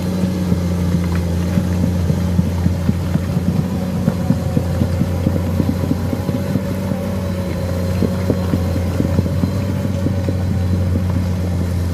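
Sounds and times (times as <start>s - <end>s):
excavator diesel engine droning: 0.0s - 11.9s.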